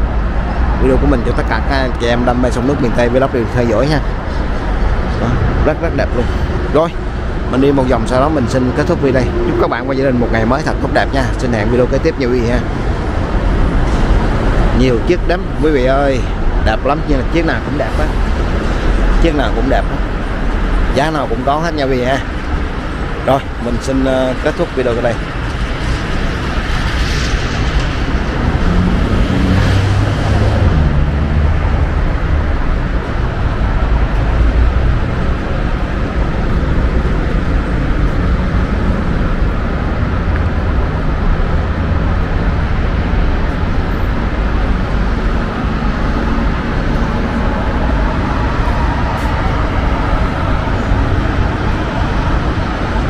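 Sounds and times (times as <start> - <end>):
road traffic rumble: 0.0 - 53.0.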